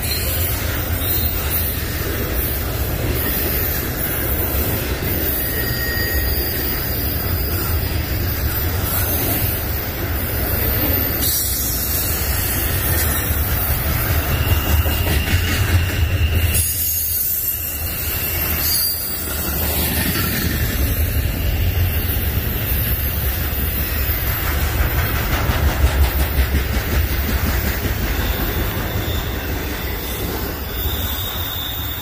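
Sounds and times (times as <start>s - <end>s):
high wheel squeal: 0.0s - 25.1s, 28.2s - 32.0s
freight train wheels rumbling: 0.0s - 32.0s.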